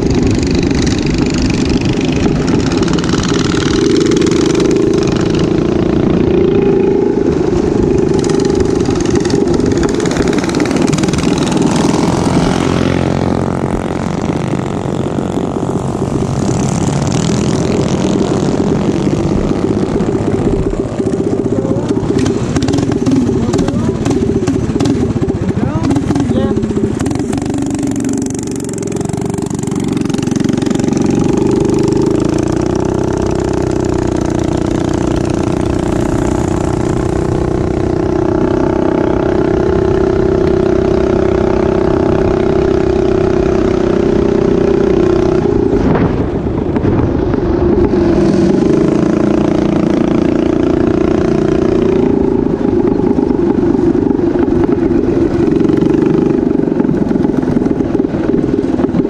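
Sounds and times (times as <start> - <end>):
minibike engine running: 0.0 - 59.0.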